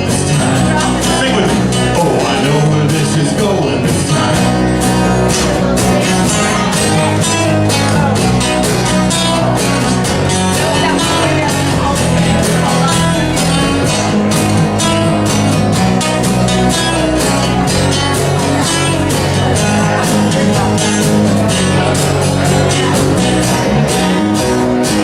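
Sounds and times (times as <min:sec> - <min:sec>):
bass: 0:00.0 - 0:25.0
country band playing: 0:00.0 - 0:25.0
guitar: 0:00.0 - 0:25.0
steady drum beat: 0:00.0 - 0:25.0.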